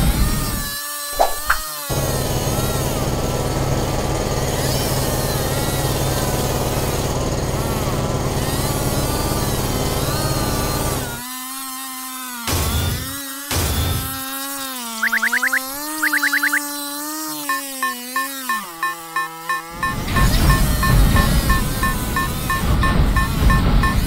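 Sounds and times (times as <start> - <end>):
cartoon drill buzzing grind: 0.0 - 24.0.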